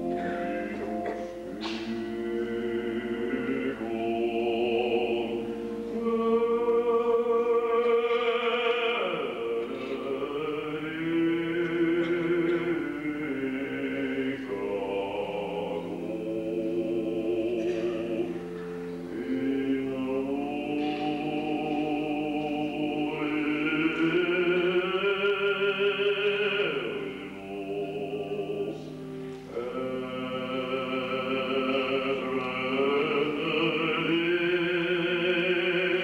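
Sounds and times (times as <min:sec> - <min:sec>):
man singing with vibrato: 0:00.0 - 0:36.0
men's choir sustaining chords: 0:00.0 - 0:36.0.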